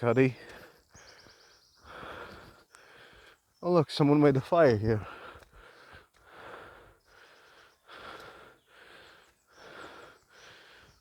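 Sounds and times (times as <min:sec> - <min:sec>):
person breathing heavily: 0:00.4 - 0:03.5, 0:05.0 - 0:11.0.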